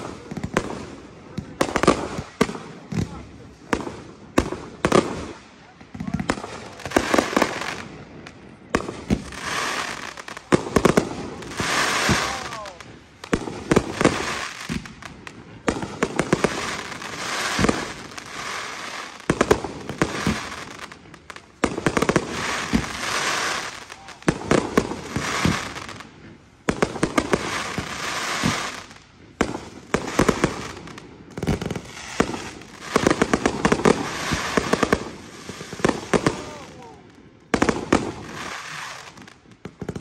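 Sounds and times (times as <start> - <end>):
firework crackle: 0.0 - 40.0.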